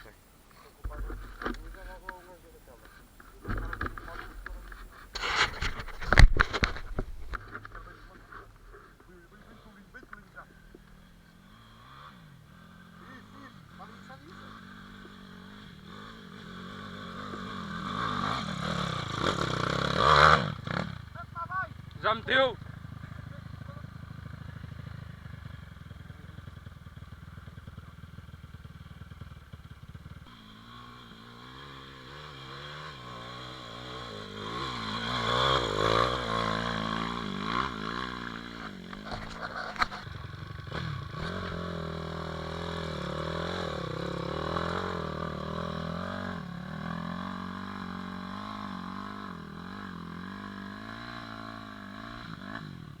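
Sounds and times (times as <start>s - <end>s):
small engine revving: 0.0s - 53.0s.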